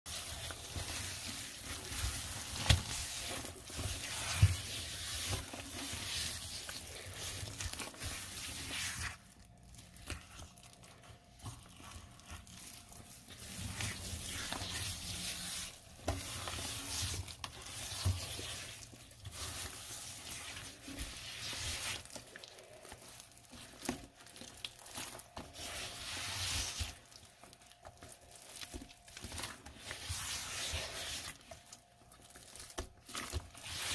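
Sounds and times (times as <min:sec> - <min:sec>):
gloved hand scrubbing wet paste: 0:00.1 - 0:33.9.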